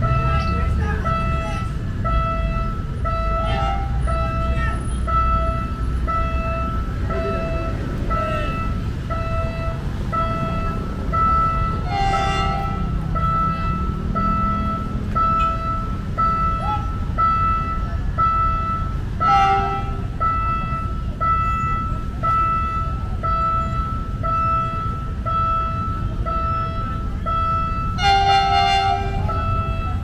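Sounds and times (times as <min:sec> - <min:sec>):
electronic warning beep: 0:00.0 - 0:28.0
horn tooting: 0:00.0 - 0:30.0
low street noise: 0:00.0 - 0:30.0.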